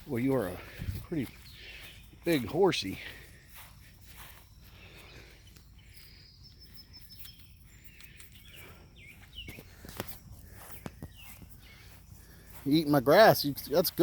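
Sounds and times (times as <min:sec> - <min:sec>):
faint outdoor ambience: 0:00.0 - 0:14.0
small birds chirping: 0:00.0 - 0:14.0.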